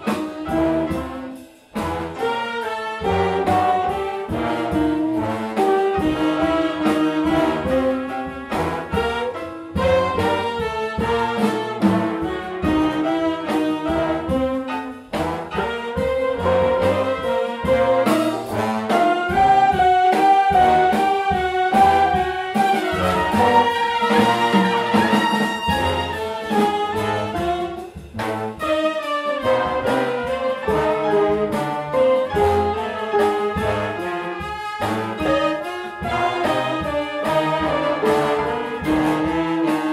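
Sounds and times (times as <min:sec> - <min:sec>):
big jazz band playing: 0:00.0 - 0:39.9
drums: 0:00.0 - 0:39.9.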